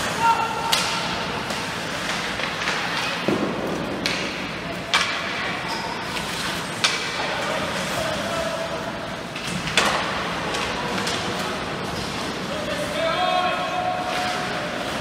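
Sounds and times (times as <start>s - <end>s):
murmur of spectators: 0.0s - 15.0s.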